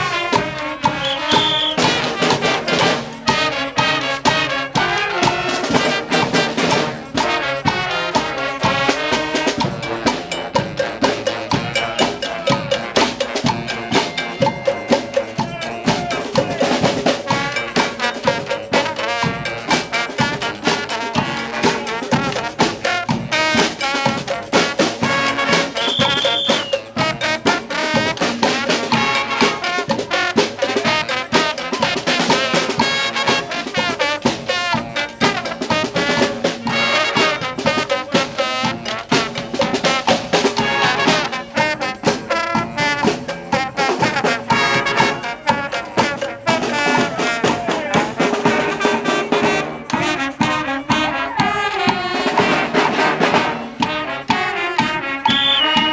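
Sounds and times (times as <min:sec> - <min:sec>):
steady drumbeat: 0:00.0 - 0:55.9
trumpets and trombones: 0:00.0 - 0:55.9.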